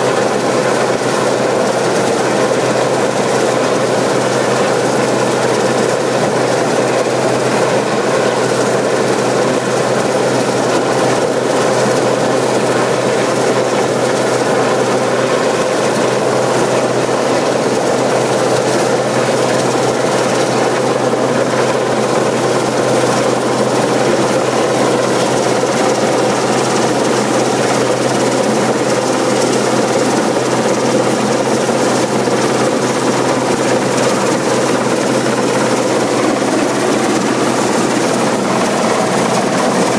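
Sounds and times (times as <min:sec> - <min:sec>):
helicopter rotor and turbines: 0:00.0 - 0:39.9.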